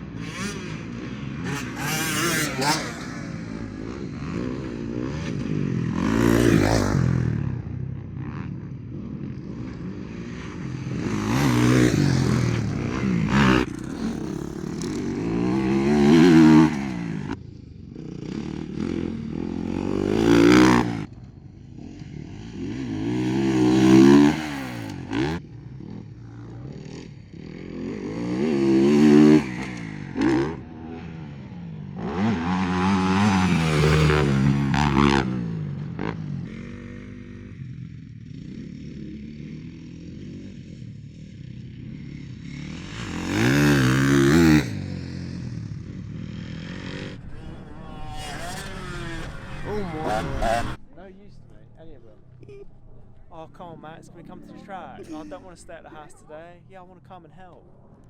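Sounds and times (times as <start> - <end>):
motocross bikes passing: 0.0 - 58.0.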